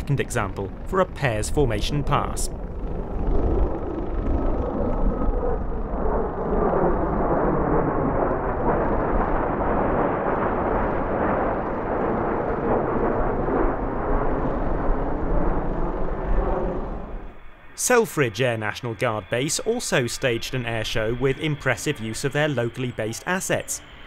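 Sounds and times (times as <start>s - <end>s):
jet bombers passing overhead: 0.0s - 24.0s.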